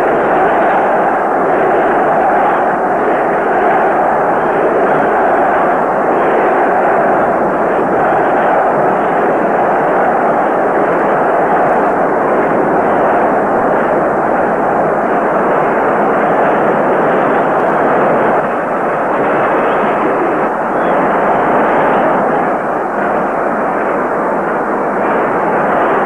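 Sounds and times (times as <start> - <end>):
muffled stadium crowd roar: 0.0 - 26.0.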